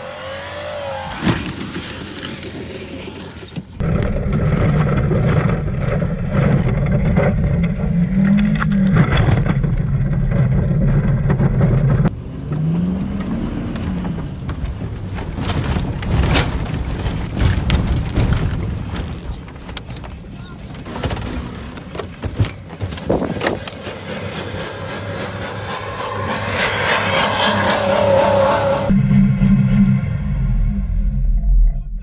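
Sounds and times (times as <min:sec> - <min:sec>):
car engine rumbling with rattling: 0:01.4 - 0:28.9.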